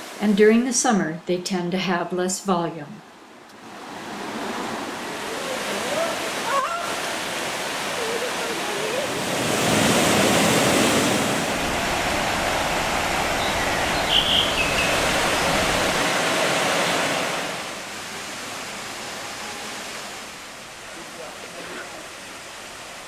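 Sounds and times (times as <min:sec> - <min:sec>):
waterfall rushing water: 0:03.6 - 0:23.0.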